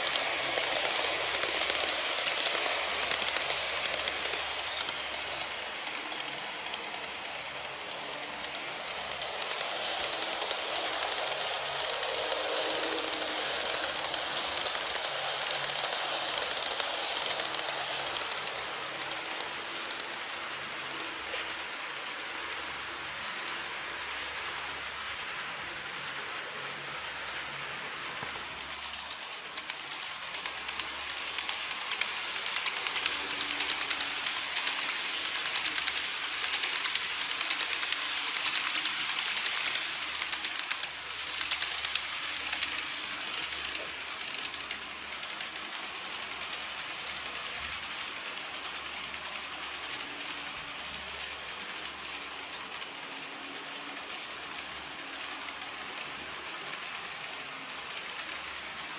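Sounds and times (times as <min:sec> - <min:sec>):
wheels clicking over rail joints: 0:00.0 - 0:22.8, 0:28.1 - 0:58.9
model train running on track: 0:00.0 - 0:58.9.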